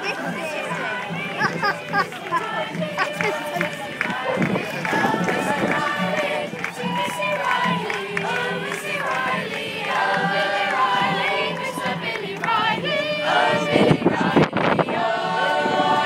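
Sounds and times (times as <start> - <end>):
choir singing in unison: 0.0 - 16.0.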